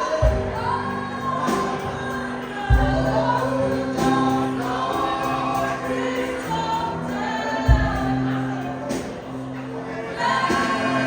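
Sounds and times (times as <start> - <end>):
choir singing gospel music: 0.0 - 11.0.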